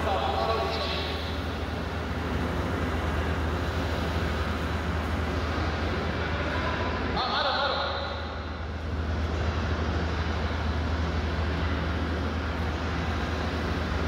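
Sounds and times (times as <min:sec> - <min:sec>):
low motor hum: 0:00.0 - 0:07.2, 0:07.9 - 0:14.0.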